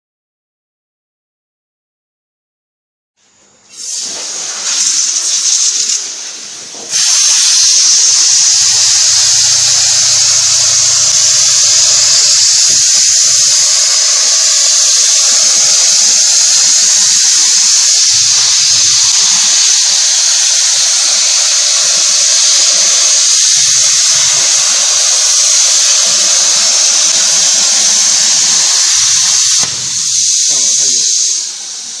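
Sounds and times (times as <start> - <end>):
plasma torch cutting hiss: 3.7 - 32.0.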